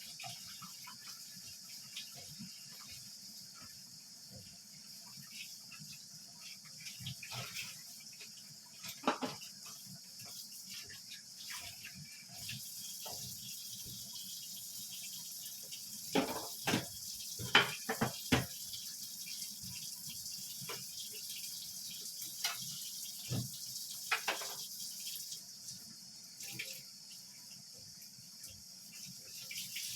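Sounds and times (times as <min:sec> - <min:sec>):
steady kitchen hiss: 0:00.0 - 0:29.9.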